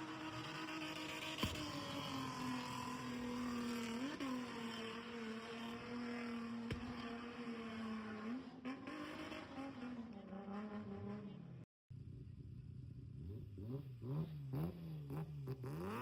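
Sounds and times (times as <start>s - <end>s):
car engine running at high revs: 0.0s - 11.6s, 12.5s - 16.0s.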